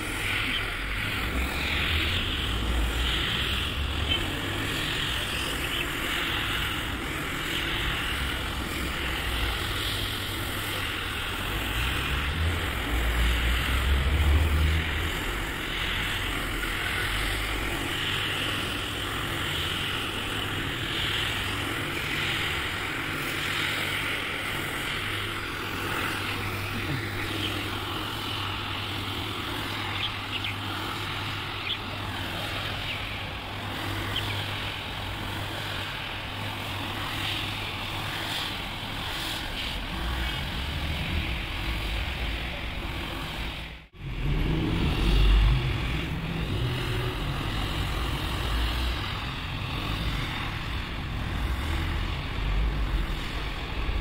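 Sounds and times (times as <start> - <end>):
floor scrubber motor hum: 0.0 - 54.0.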